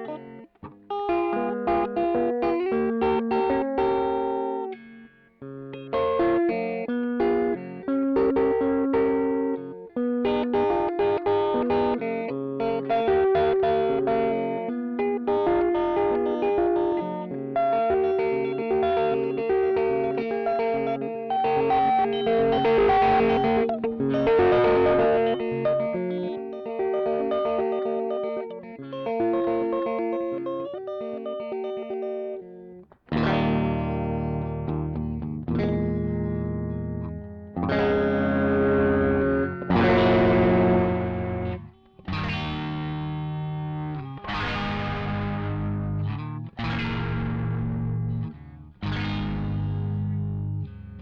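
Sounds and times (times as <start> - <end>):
distorted guitar chords ringing: 0.0 - 51.0
picked electric guitar line: 0.0 - 51.0.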